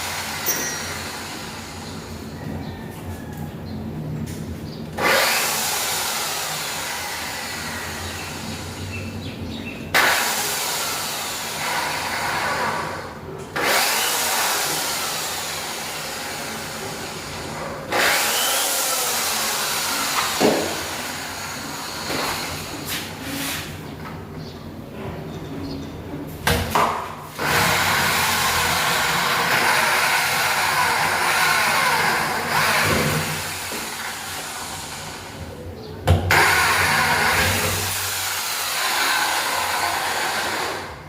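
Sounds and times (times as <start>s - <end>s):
power tool running: 0.0s - 2.3s, 4.9s - 9.2s, 9.9s - 23.6s, 27.3s - 35.4s, 36.3s - 41.0s.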